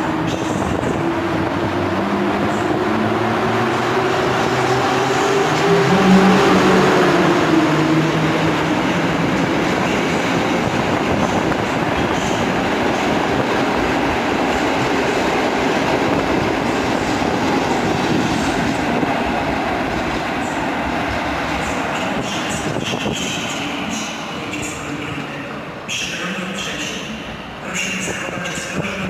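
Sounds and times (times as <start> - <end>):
locomotive hum: 0.0 - 27.6
train wheels rumbling on rails: 0.0 - 29.0.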